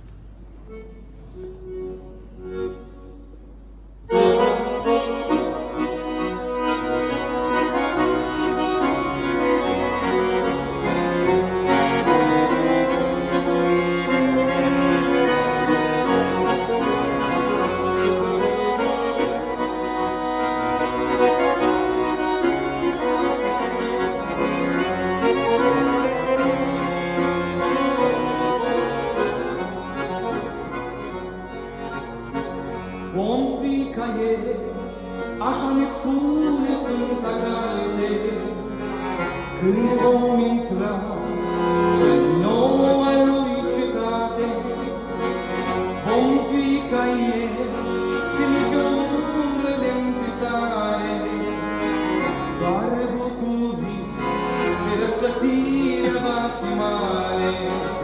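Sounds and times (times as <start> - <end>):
accordion playing chords and melody: 0.0 - 58.0.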